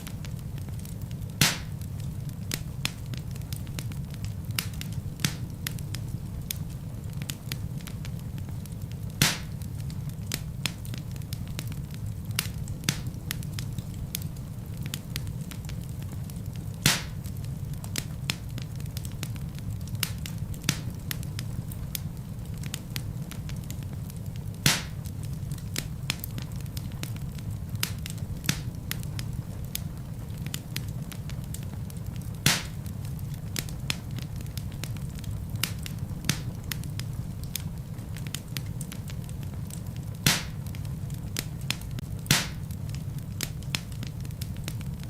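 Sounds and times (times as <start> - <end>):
burning logs popping: 0.0 - 45.0
fire crackling: 0.0 - 45.0
fire flames rumbling: 0.0 - 45.0.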